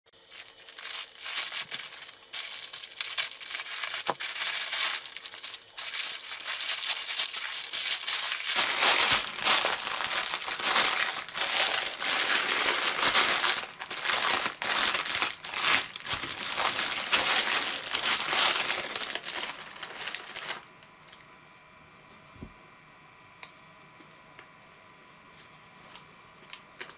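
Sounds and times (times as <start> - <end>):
plastic packaging crinkling: 0.2 - 21.2, 25.8 - 26.9.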